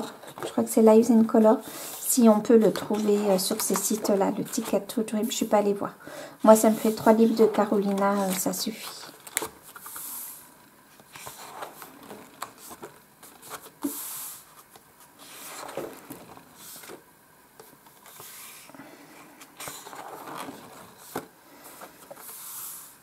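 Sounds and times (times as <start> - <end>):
paper pages turning: 1.9 - 4.9, 6.5 - 17.0, 17.6 - 23.0.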